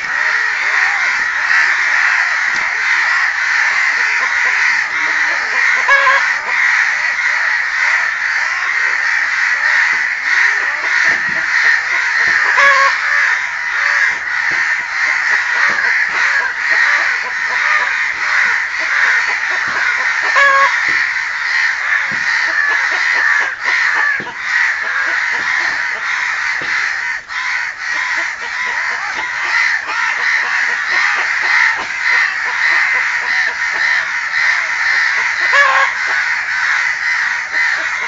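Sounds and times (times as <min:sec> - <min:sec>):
crows cawing: 0:00.0 - 0:38.0.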